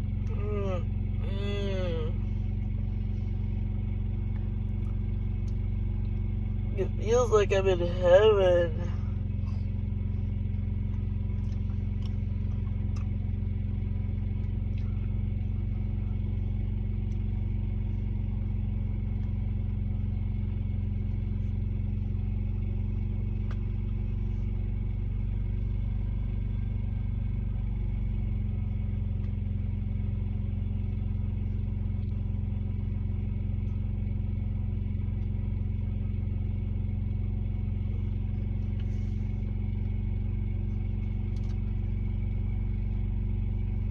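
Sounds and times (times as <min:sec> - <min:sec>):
truck engine humming: 0:00.0 - 0:43.9.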